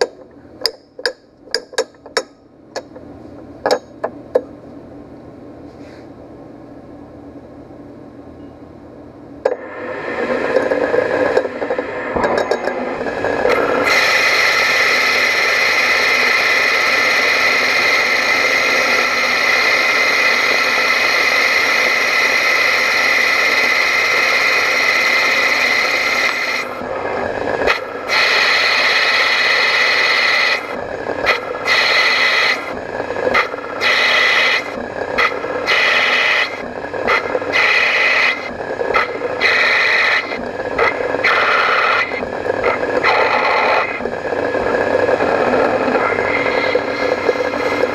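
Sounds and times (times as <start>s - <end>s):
spindle whirring: 9.3s - 47.9s
lathe tool cutting brass hiss: 9.5s - 47.9s.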